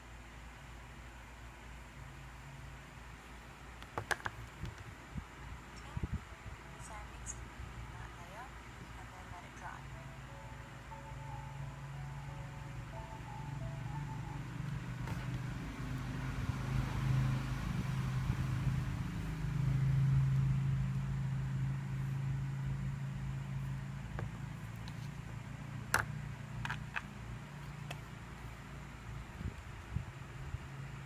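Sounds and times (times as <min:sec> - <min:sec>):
low motor hum: 0:06.0 - 0:30.9.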